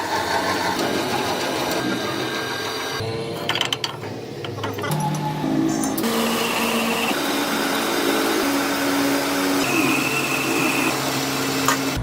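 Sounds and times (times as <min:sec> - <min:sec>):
machinery running: 0:00.0 - 0:12.0.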